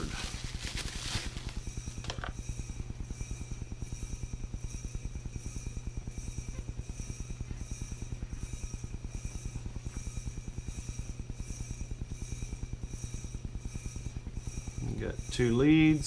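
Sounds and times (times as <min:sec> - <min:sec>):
faint high whine: 0:00.0 - 0:16.0
machine pulsing low hum: 0:00.0 - 0:16.0.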